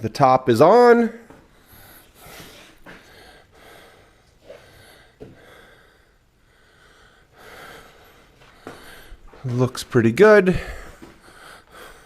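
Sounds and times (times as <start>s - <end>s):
man breathing: 1.4s - 9.5s, 10.4s - 12.0s.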